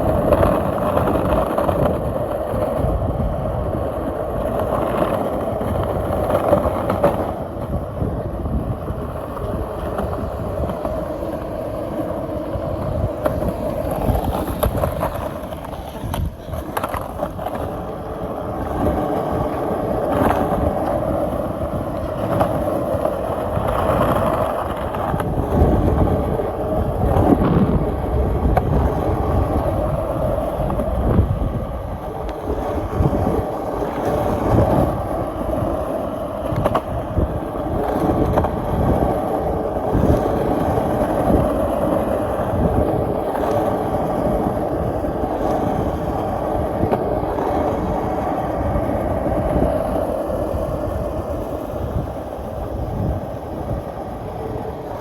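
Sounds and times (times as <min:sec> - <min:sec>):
skateboard clacking over joints: 0:00.0 - 0:55.0
skateboard wheels rolling on pavement: 0:00.0 - 0:55.0.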